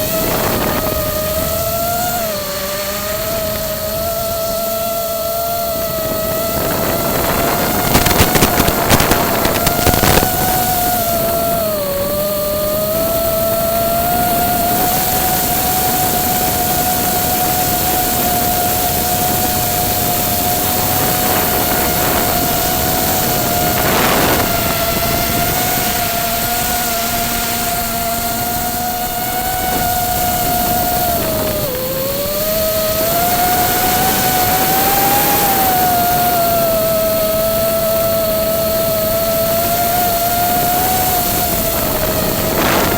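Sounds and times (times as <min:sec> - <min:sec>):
rushing air: 0:00.0 - 0:12.7, 0:14.8 - 0:37.3, 0:39.1 - 0:42.9
quadcopter motors whining: 0:00.0 - 0:42.9.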